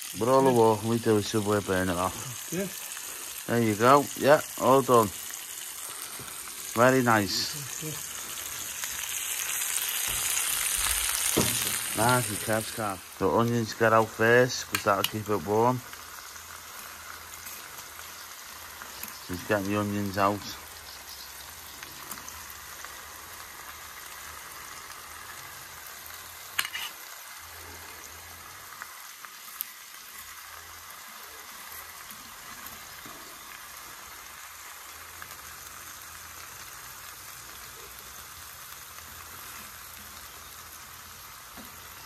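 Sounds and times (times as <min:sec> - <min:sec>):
meat sizzling on a griddle: 0:00.0 - 0:42.0.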